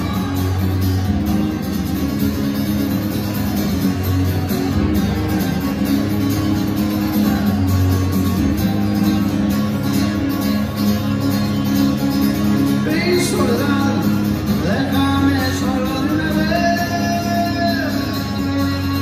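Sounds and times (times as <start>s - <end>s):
acoustic guitar strumming: 0.0s - 19.0s
guitar melody with pitch bends: 0.0s - 19.0s.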